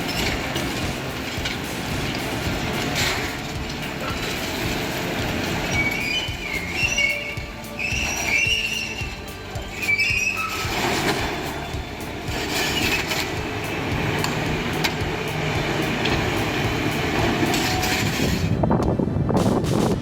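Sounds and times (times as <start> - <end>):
high metallic squeals: 0.0 - 18.6
heavy engine rumbling: 0.0 - 20.0
metal clanks: 0.0 - 20.0.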